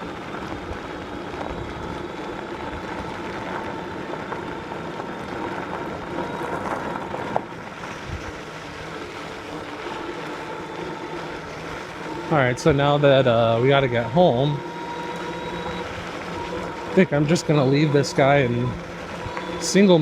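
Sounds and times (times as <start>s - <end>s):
faint electric motor whine: 0.0s - 20.0s.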